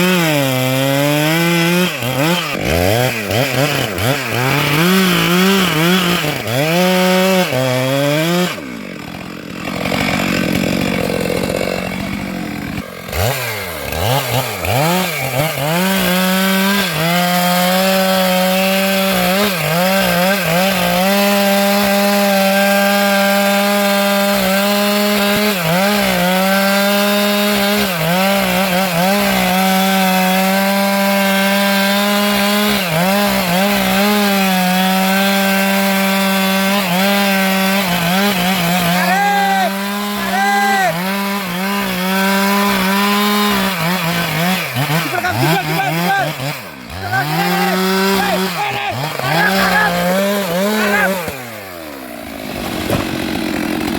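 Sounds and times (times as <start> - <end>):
chainsaw revving and cutting wood: 0.0 - 53.9.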